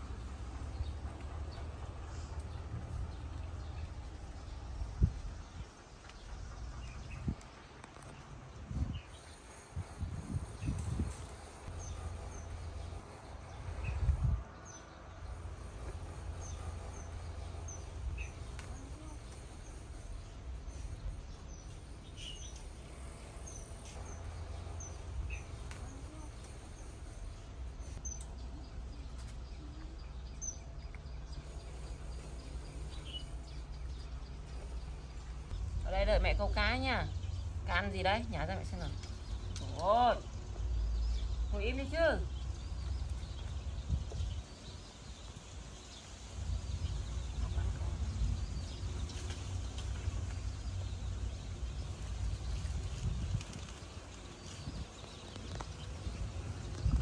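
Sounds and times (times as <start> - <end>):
low uneven rumble: 0.0 - 57.0.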